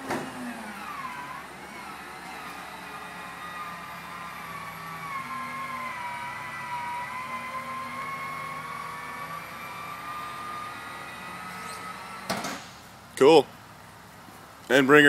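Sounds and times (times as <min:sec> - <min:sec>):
electric motor whine: 0:00.0 - 0:12.3.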